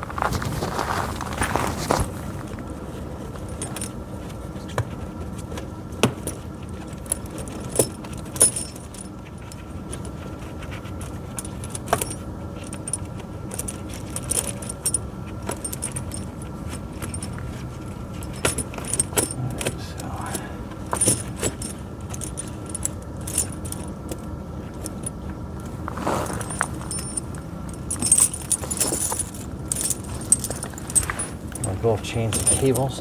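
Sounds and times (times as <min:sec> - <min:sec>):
steady background hum: 0:00.0 - 0:33.0
chain links clinking: 0:03.4 - 0:04.0, 0:06.2 - 0:25.2, 0:25.9 - 0:33.0.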